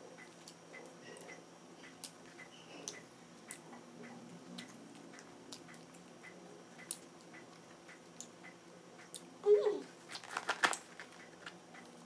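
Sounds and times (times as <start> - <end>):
faint clicks and taps of eating: 0.2 - 9.3, 10.6 - 12.0.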